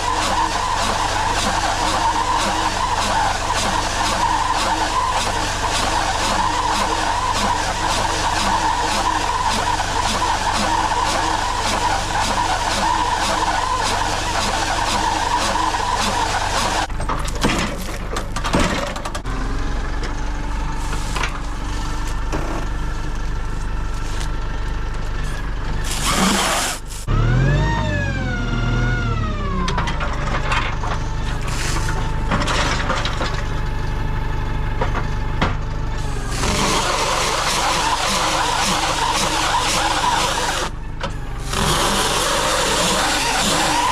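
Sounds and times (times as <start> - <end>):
tractor engine running under load: 0.0 - 43.9.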